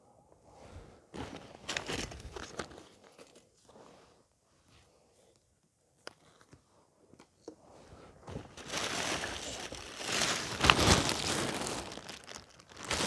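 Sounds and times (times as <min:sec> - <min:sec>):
rustling and crinkling: 0:00.7 - 0:04.8, 0:06.1 - 0:13.0.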